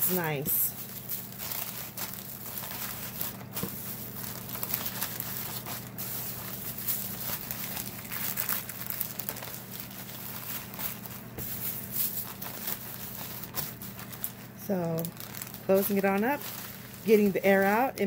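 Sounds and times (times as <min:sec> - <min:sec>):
plastic bag crinkling: 0:00.0 - 0:18.0
wax paper rustling: 0:00.0 - 0:18.0.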